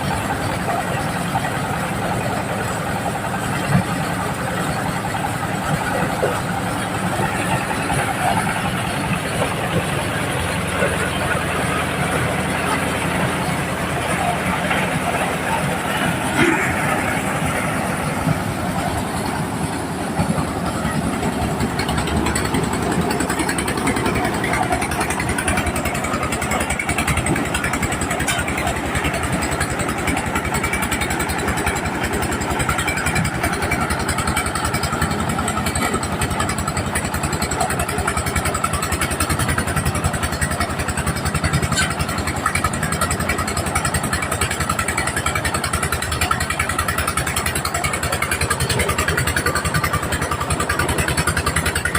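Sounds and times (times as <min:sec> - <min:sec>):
corn sheller engine running: 0:00.0 - 0:51.9.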